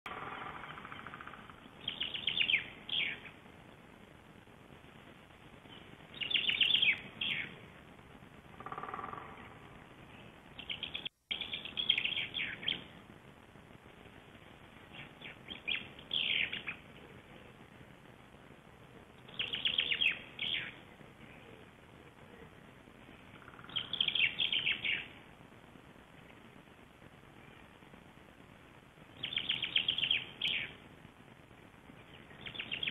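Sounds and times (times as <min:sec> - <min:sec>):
songbird singing: 0:00.1 - 0:04.1, 0:04.9 - 0:13.1, 0:13.9 - 0:18.1, 0:18.7 - 0:25.3, 0:26.1 - 0:28.0, 0:29.0 - 0:30.9, 0:31.9 - 0:32.9.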